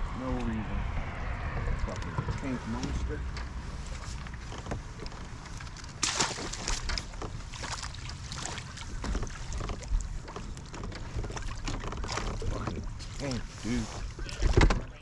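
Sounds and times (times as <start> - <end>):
water sloshing: 1.4 - 15.0
knocks and rustles against kayak hull: 1.5 - 15.0.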